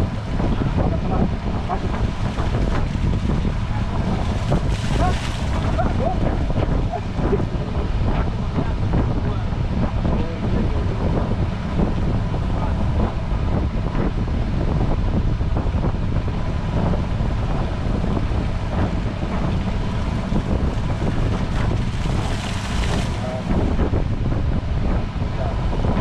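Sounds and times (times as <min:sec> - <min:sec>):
boat engine low rumble: 0:00.0 - 0:26.0
wind buffeting microphone: 0:00.0 - 0:26.0.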